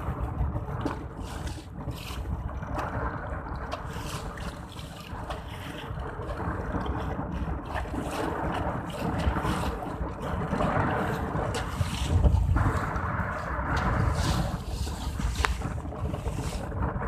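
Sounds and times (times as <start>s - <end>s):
boat engine drone: 0.0s - 17.0s
water rushing past hull: 0.0s - 17.0s
wind buffeting microphone: 0.0s - 17.0s.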